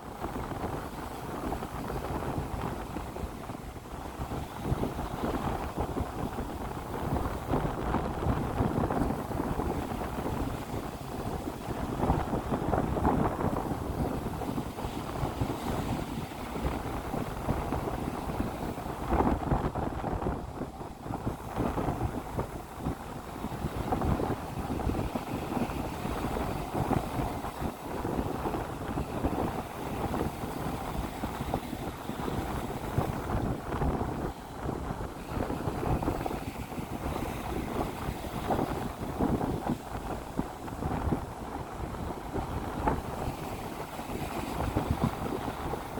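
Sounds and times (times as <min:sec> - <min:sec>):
waves breaking on beach: 0:00.0 - 0:45.9
wind buffeting microphone: 0:00.0 - 0:45.9.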